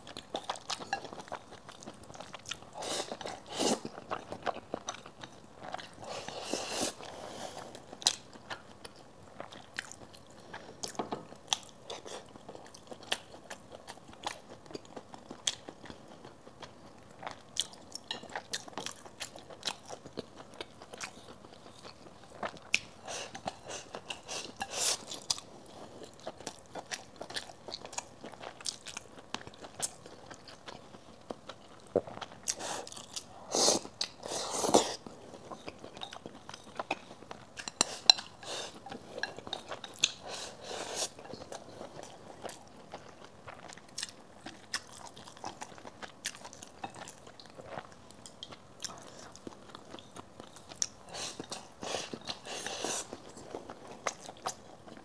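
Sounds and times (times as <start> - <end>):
chewing and smacking: 0.0 - 6.1, 7.8 - 34.2, 35.0 - 55.0.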